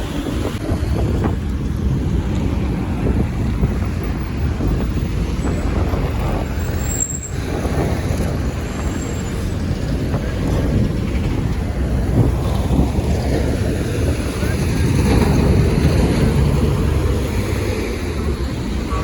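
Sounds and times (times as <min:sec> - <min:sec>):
motorway traffic rumble: 0:00.0 - 0:19.0.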